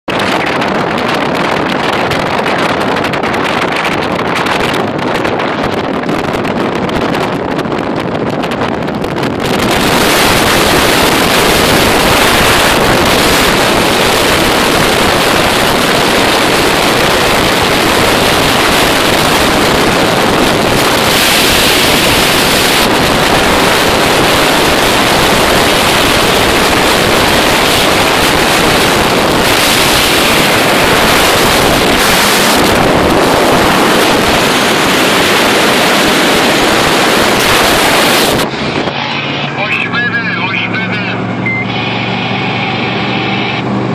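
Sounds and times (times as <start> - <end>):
wind buffeting microphone: 0.0 - 41.6
road and vehicle noise: 0.0 - 43.9.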